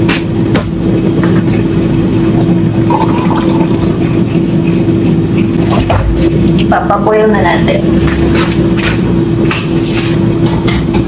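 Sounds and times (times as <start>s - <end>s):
mechanical kitchen hum: 0.0s - 11.0s.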